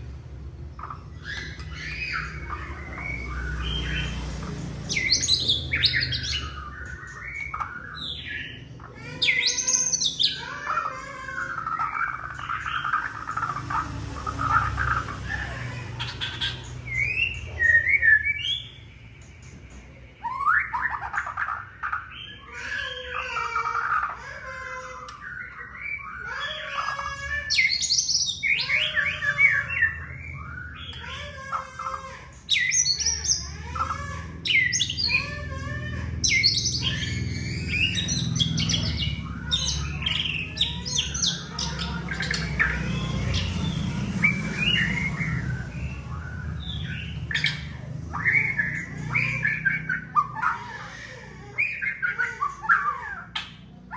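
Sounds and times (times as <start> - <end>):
bird singing: 0.0 - 53.9.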